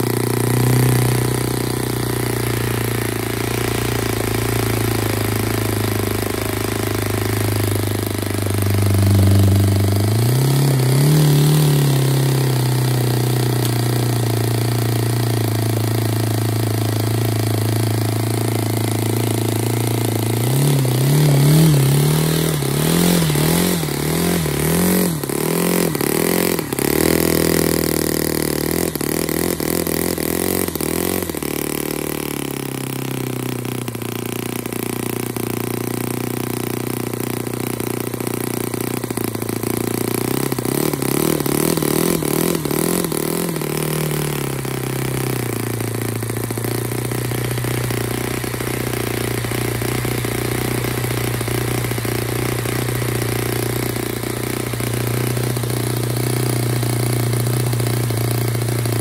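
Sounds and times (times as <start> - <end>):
model engine running: 0.0 - 59.0.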